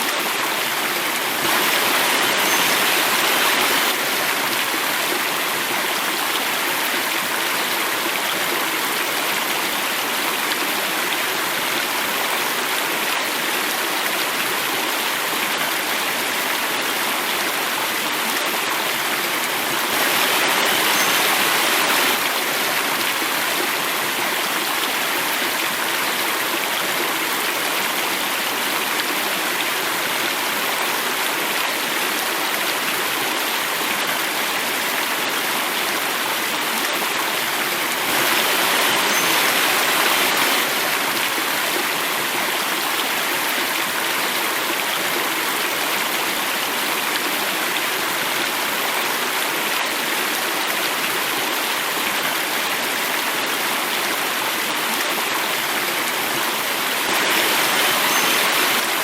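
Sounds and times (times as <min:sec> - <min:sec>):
water rushing in a cascade: 0:00.0 - 0:59.0.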